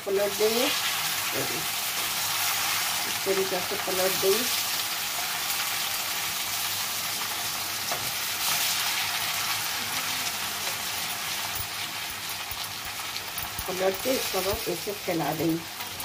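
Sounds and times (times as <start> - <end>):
potatoes sizzling in oil: 0.0 - 16.0.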